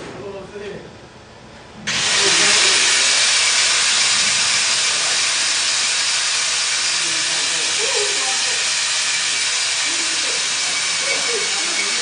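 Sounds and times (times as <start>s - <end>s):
welding arc sizzling hiss: 1.9s - 12.0s.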